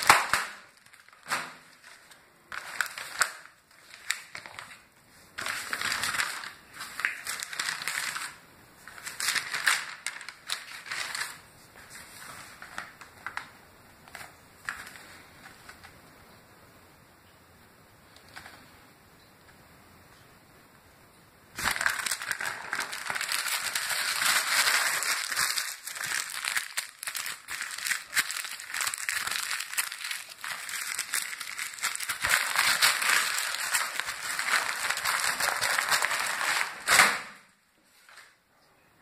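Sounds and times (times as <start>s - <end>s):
magazine pages crumpled and torn: 0.0s - 16.0s, 21.6s - 38.4s.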